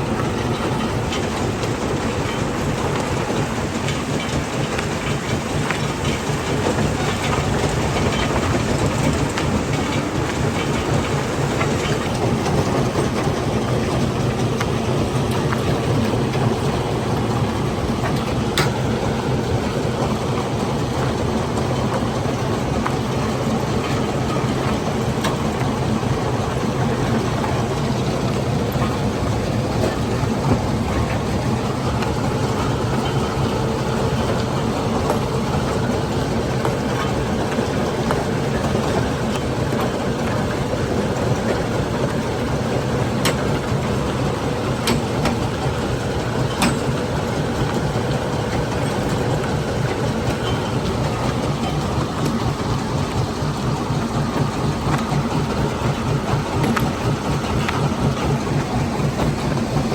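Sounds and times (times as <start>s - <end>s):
stone crusher machinery rumbling: 0.0s - 59.9s.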